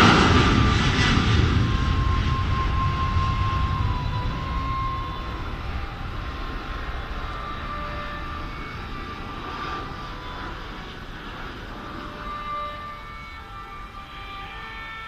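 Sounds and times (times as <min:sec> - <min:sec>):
airplane engines rumbling and whining: 0:00.0 - 0:15.0.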